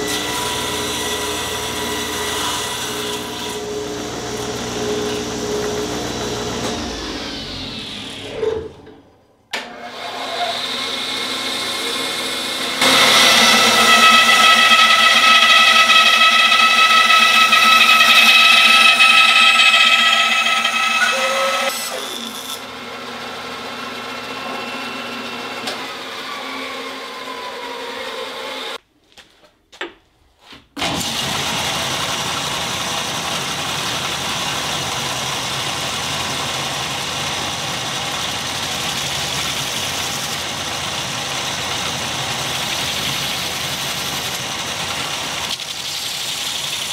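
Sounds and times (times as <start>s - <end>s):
belt grinder running: 0.0s - 8.4s, 9.9s - 26.9s, 30.9s - 46.9s
band saw cutting wood: 0.0s - 28.8s, 30.8s - 46.9s.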